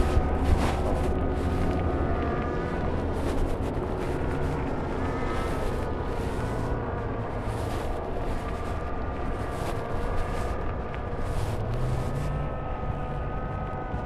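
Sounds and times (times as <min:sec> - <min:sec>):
bike tyres rolling on dirt: 0:00.0 - 0:14.0
steady thin whine: 0:00.0 - 0:14.0
wind buffeting microphone: 0:00.0 - 0:14.0.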